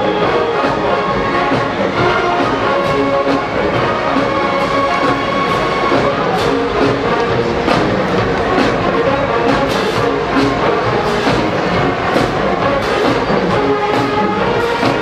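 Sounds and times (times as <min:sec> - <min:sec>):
brass holding sustained chords: 0:00.0 - 0:15.0
marching drums and percussion: 0:00.0 - 0:15.0.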